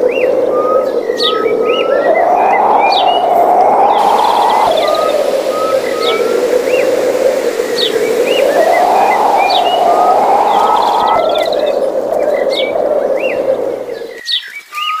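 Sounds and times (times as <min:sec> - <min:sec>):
small birds chirping: 0:00.0 - 0:15.0
loud rushing noise: 0:01.5 - 0:14.2.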